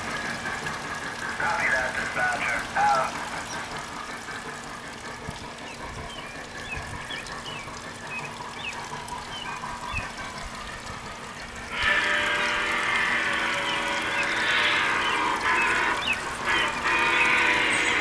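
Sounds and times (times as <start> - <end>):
waterfall splashing into pond: 0.0 - 18.0.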